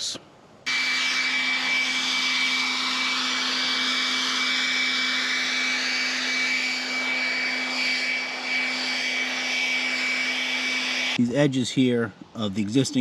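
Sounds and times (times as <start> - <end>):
leaf blower running: 0.7 - 11.2.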